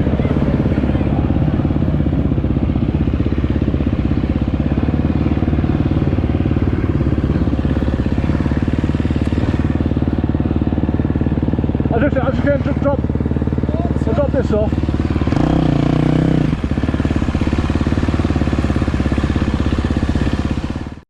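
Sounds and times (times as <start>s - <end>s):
motocross bike engine idling: 0.0s - 21.0s.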